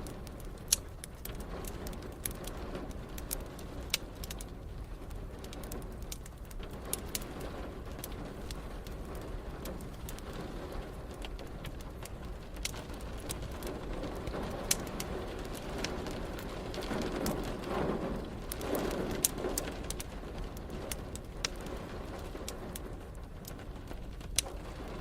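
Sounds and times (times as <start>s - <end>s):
rain hissing: 0.0s - 25.0s
wood fire crackling and popping: 0.0s - 25.0s.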